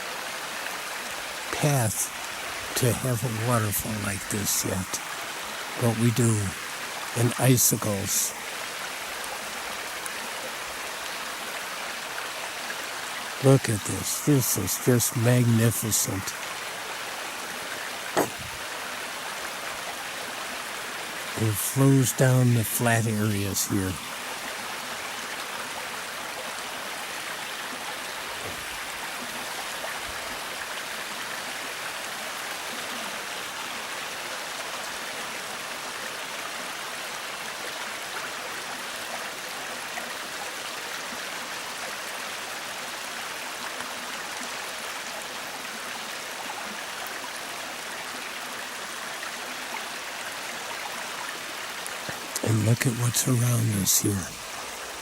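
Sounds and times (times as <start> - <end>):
water rushing over rock ledges: 0.0 - 55.0.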